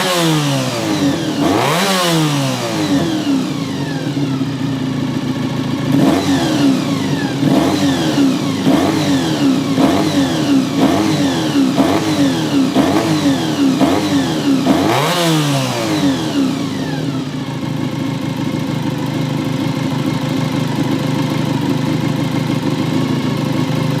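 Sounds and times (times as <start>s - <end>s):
motorcycle engine idling: 0.0s - 24.0s
motorcycle engine revving: 0.0s - 24.0s.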